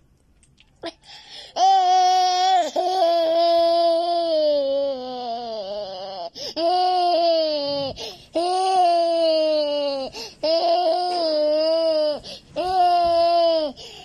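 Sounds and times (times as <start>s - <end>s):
toddler crying: 1.6s - 13.8s.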